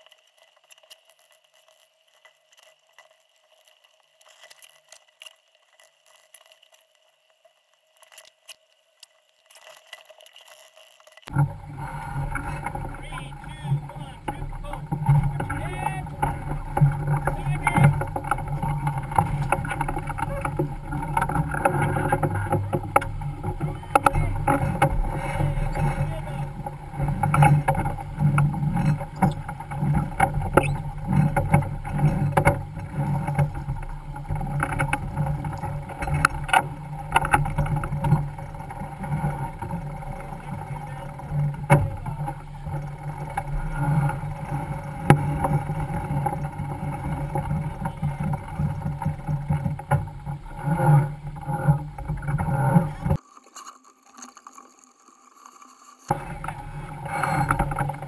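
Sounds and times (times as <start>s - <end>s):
water rushing past hull: 11.3s - 58.0s.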